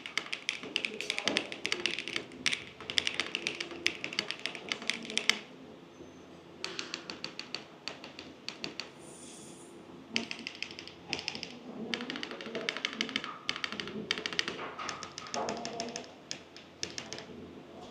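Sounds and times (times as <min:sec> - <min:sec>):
mechanical keyboard typing: 0:00.0 - 0:05.5, 0:06.6 - 0:09.0, 0:10.2 - 0:17.3.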